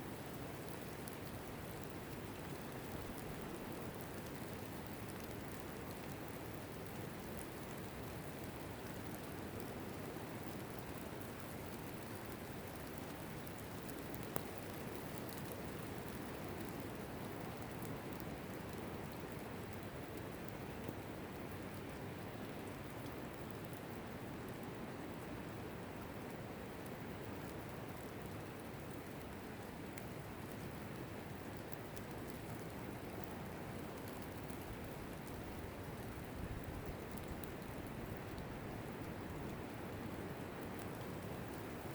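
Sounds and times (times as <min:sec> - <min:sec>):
raindrops pattering: 0:00.0 - 0:41.9.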